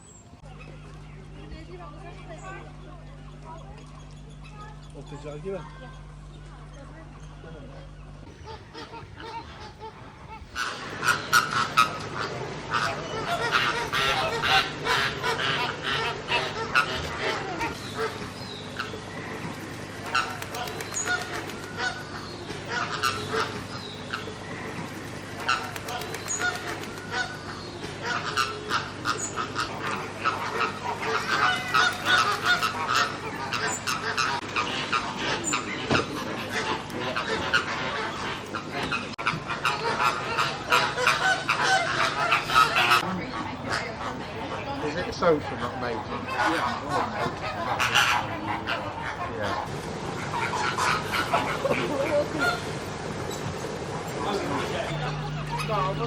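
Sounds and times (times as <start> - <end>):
birds honking: 0.0 - 56.0
waterbirds calling: 0.0 - 56.0.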